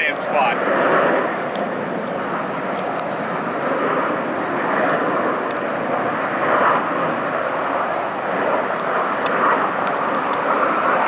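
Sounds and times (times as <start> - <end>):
jet engines roaring overhead: 0.0 - 11.0.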